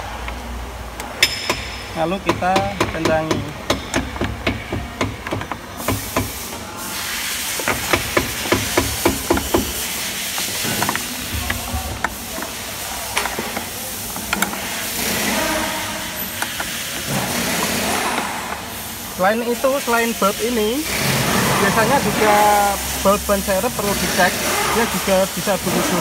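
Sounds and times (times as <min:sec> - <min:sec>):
steady hiss: 0:04.4 - 0:26.0.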